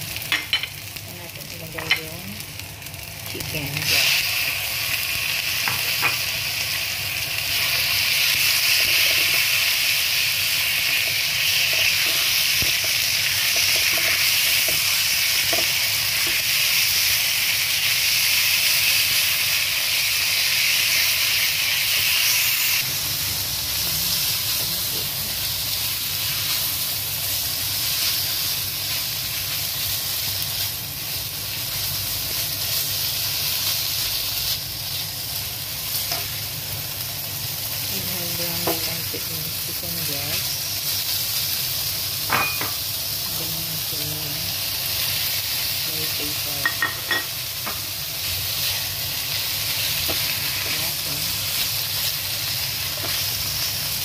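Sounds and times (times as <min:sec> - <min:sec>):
chicken and onion sizzling in pan: 0:00.0 - 0:54.0.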